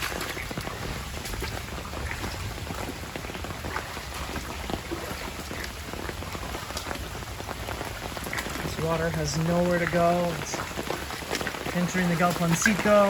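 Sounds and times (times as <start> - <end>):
heavy rain falling: 0.0 - 13.0
raindrops pattering on surfaces: 0.0 - 13.0.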